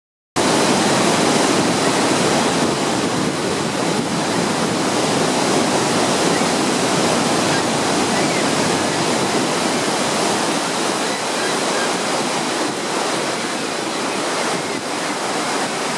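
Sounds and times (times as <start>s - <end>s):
waterfall rushing onto boulders: 0.4s - 15.9s.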